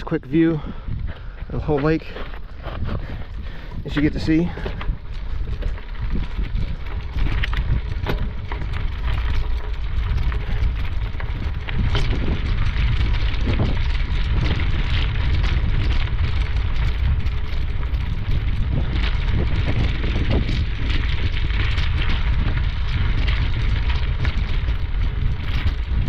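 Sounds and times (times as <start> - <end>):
crackling footsteps: 0.0 - 26.0
wind rumbling on microphone: 0.0 - 26.0.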